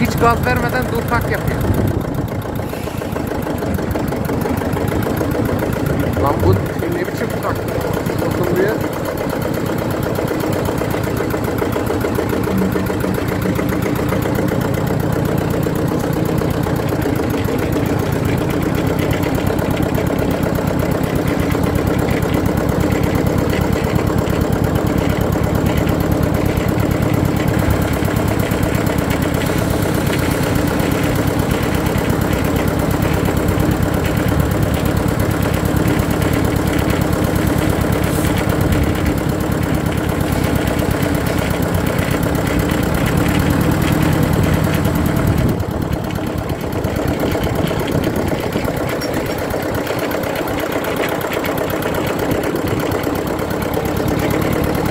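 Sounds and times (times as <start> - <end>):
tractor diesel engine idling: 0.0 - 54.9.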